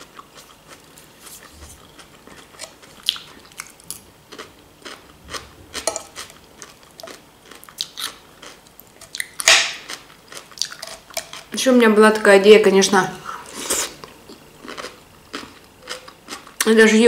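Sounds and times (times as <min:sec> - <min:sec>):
chewing crunchy salad: 0:00.0 - 0:11.6, 0:13.4 - 0:16.8.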